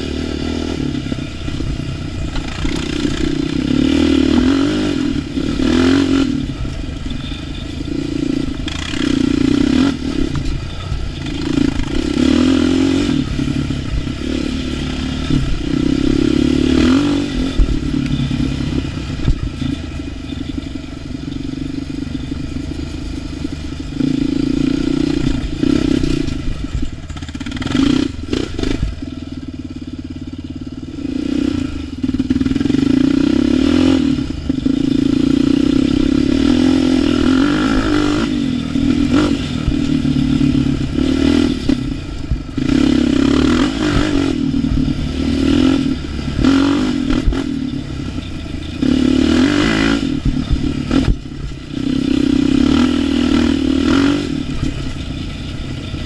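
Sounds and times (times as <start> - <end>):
atv engine revving: 0.0 - 56.0
machine clattering over rough ground: 1.0 - 29.2, 32.0 - 56.0.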